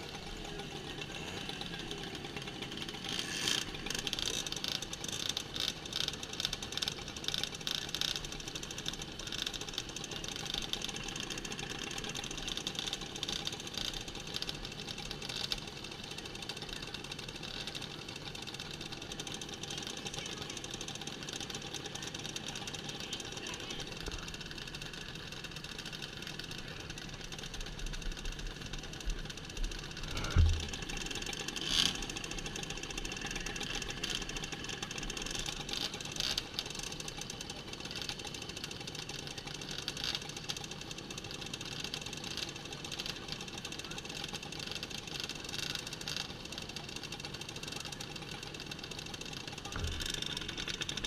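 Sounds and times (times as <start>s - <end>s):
mopeds idling: 0.0s - 51.0s.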